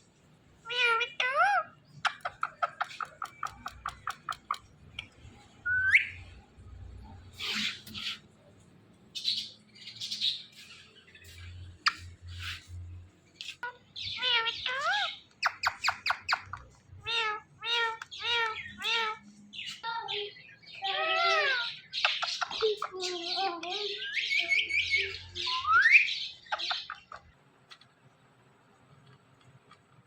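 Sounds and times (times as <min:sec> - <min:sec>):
parrots squawking and chattering: 0:00.6 - 0:08.4, 0:09.1 - 0:27.4.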